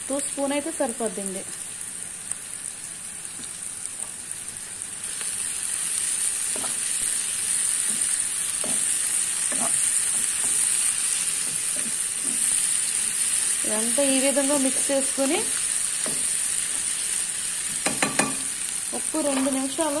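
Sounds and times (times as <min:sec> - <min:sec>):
green beans sizzling in oil: 0:00.0 - 0:20.0.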